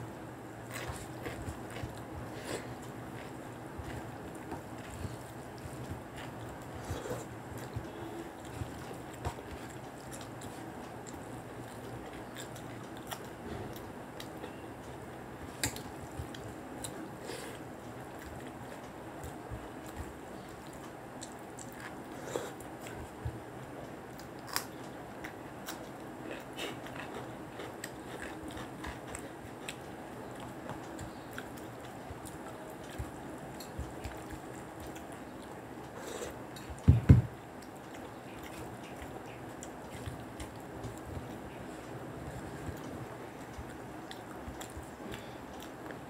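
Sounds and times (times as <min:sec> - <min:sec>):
chewing: 0:00.6 - 0:36.9, 0:37.5 - 0:46.0
fingers mixing rice on plates: 0:00.7 - 0:46.0.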